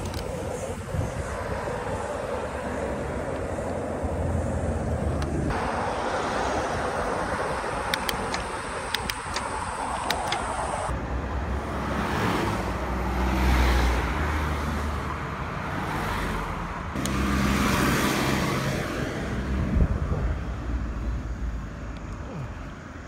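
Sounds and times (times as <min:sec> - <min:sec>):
cars driving past: 0:00.0 - 0:22.1.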